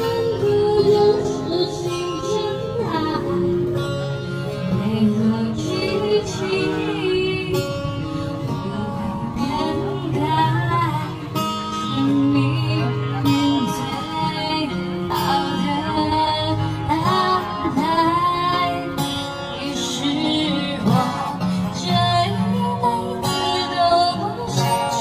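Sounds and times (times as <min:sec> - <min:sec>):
person singing: 0:00.0 - 0:03.8, 0:04.6 - 0:25.0
plucked guitar: 0:00.0 - 0:25.0.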